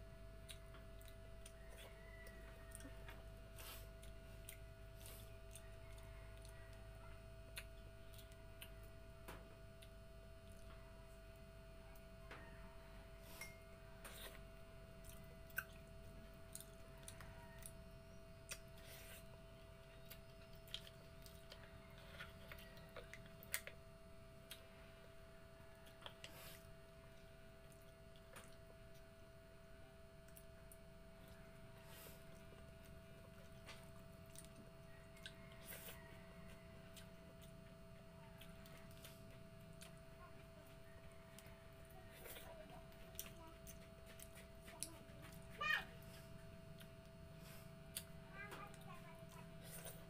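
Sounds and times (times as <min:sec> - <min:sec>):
faint two-tone hum: 0:00.0 - 0:50.0
chewing: 0:00.4 - 0:09.0, 0:09.8 - 0:23.8, 0:25.5 - 0:29.1, 0:30.2 - 0:50.0.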